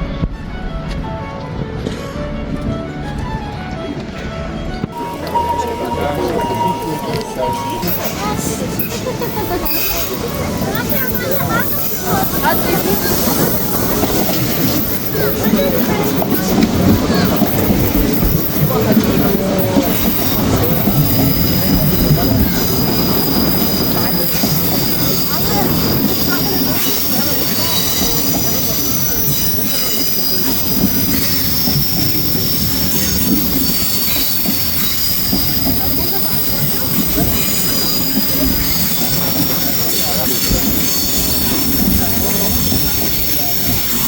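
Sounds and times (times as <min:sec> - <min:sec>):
train rumbling on rails: 0:00.0 - 0:44.0
high wheel squeal: 0:04.9 - 0:44.0.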